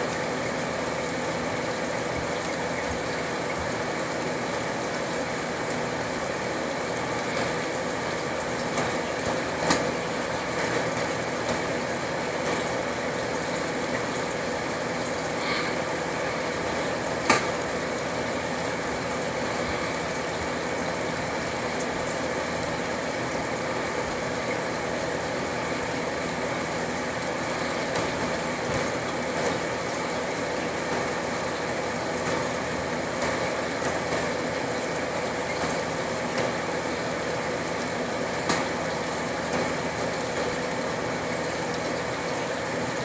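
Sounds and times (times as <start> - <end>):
mechanical hum: 0.0 - 43.0.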